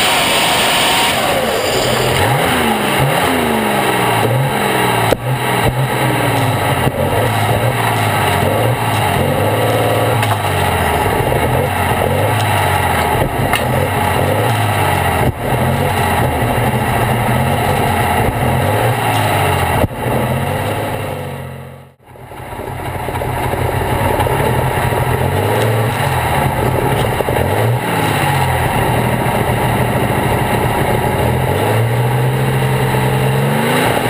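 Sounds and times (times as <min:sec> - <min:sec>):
tractor engine revving and idling: 0:00.0 - 0:34.0.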